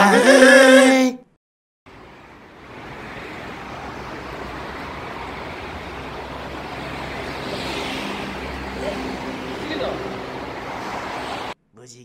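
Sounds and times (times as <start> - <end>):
rushing outdoor noise: 1.9 - 11.6.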